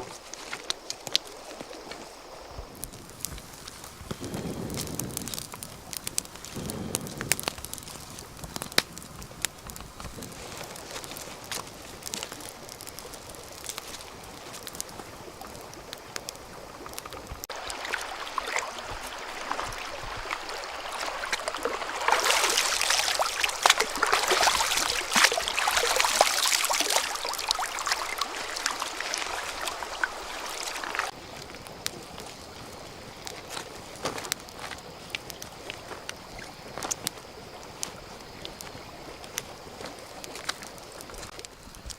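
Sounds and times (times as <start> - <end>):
water splashing and trickling: 0.0 - 41.8.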